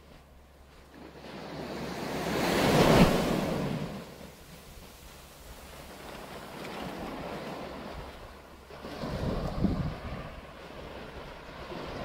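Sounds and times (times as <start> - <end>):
small waves breaking on sand: 0.0 - 12.0
wind rumbling on microphone: 0.0 - 12.0.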